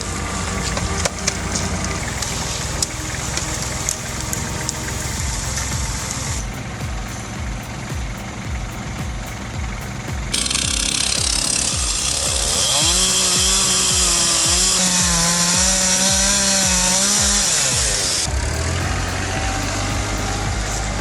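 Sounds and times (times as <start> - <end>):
music with steady beat: 0.0 - 21.0
tractor engine at high revs: 0.0 - 21.0.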